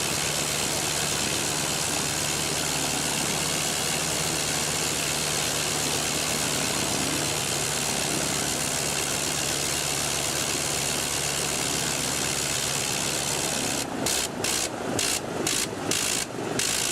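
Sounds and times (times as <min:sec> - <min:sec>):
biplane piston engine stuttering: 0:00.0 - 0:16.9.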